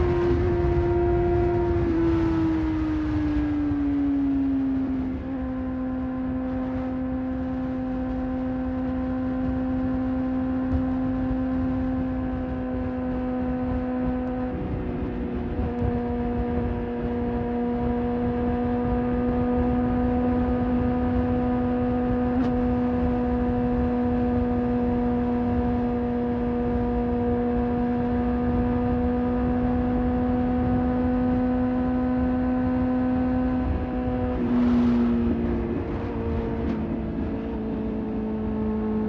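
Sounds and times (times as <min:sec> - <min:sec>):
motorcycle engine cruising: 0:00.0 - 0:39.0
wind and road noise: 0:00.0 - 0:39.0.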